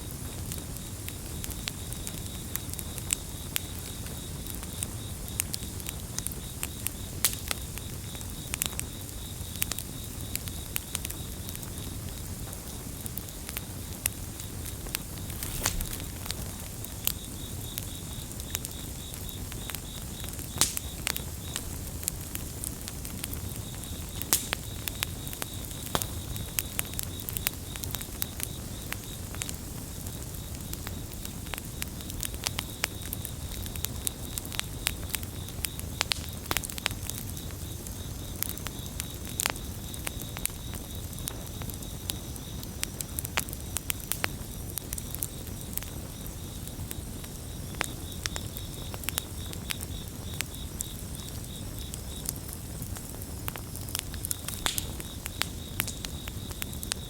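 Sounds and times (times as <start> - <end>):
campfire crackling: 0.0 - 57.0
crickets chirping: 0.0 - 57.0.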